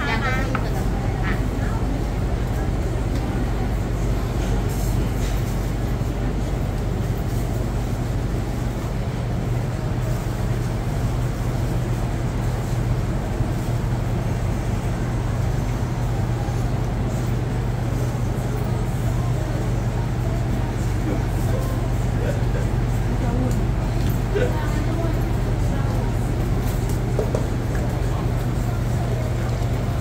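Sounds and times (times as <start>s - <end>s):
low mechanical hum: 0.0s - 30.0s
street noise rumble: 0.0s - 30.0s.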